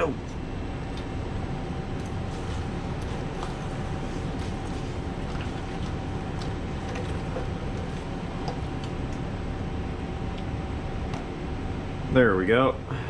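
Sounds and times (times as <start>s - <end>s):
kitchen equipment drone: 0.0s - 13.0s.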